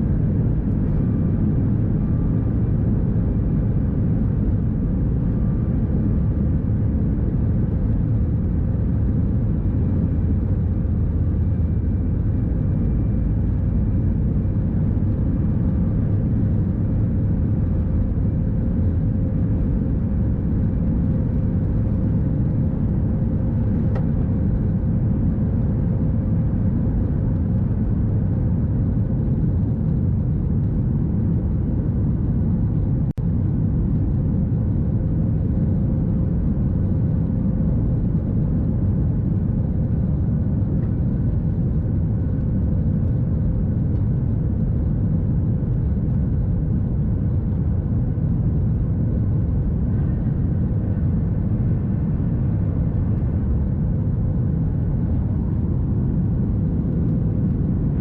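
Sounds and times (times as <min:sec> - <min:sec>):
airplane cabin engine rumble: 0:00.0 - 0:58.0
faint steady hum: 0:00.0 - 0:58.0.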